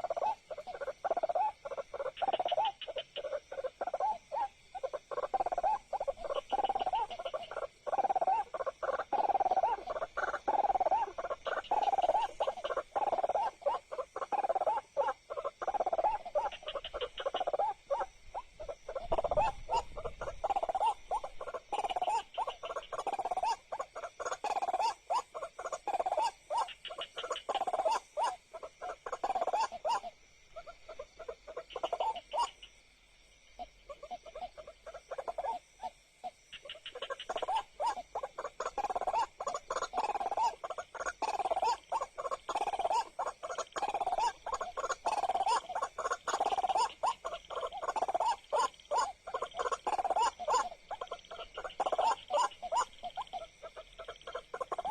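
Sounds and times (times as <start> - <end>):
waterhen calling: 0.0 - 32.7, 33.6 - 54.9
insects trilling: 0.0 - 54.9.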